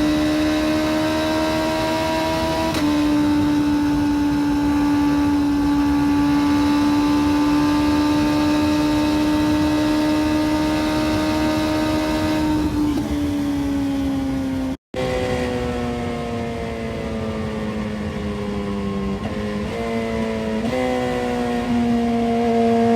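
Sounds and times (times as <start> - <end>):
motorcycle engine at high revs: 0.0 - 22.9.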